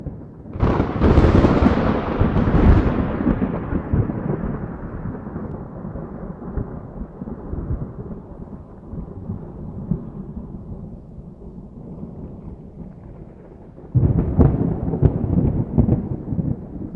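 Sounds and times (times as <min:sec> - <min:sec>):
thunderclap: 0:00.0 - 0:16.9.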